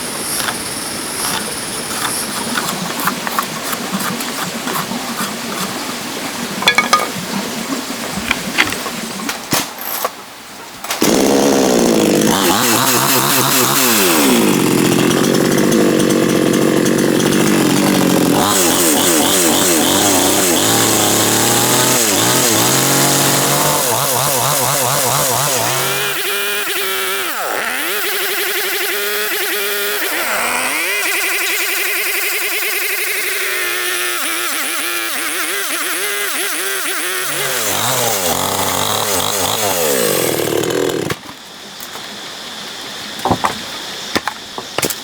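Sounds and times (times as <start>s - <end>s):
chainsaw cutting wood: 0.0s - 5.8s, 11.0s - 41.3s.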